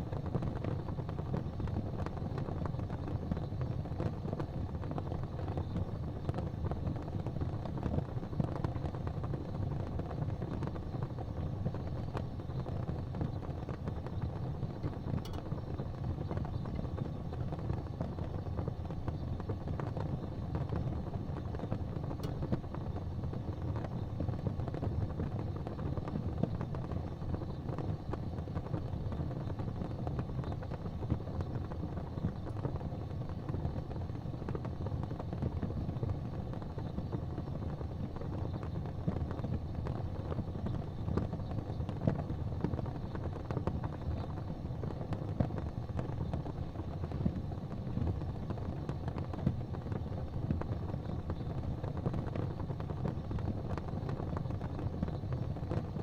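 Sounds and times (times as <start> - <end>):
faint fire crackles: 0.0 - 56.0
fire rumbling in fireplace: 0.0 - 56.0.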